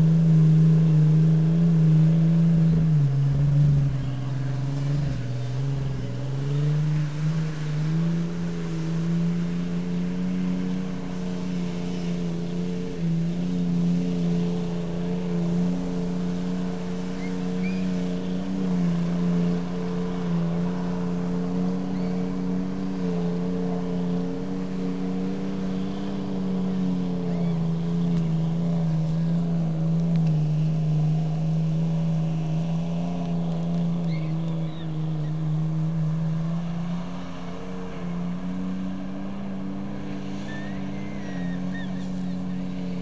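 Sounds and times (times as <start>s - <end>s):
car engine revving under load: 0.0s - 43.0s.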